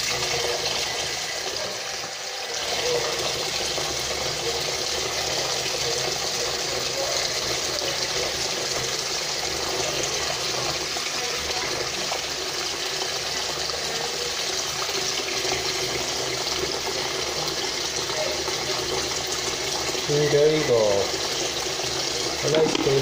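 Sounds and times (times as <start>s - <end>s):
water running from a tap: 0.0s - 23.0s.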